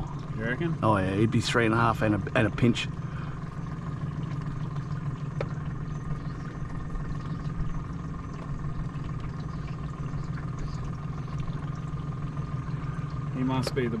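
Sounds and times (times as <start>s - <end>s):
boat motor humming: 0.0s - 14.0s
faint thin whine: 0.0s - 14.0s.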